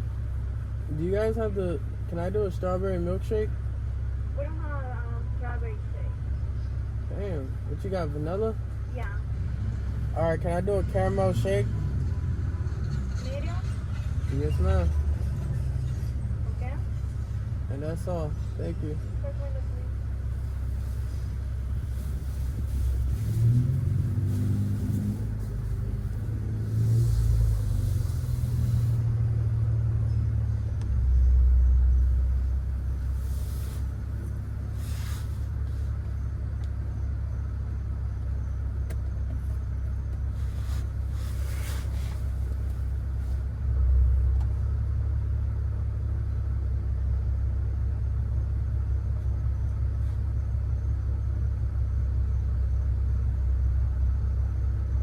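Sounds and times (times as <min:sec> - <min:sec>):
car exhaust rumbling: 0:00.0 - 0:55.0.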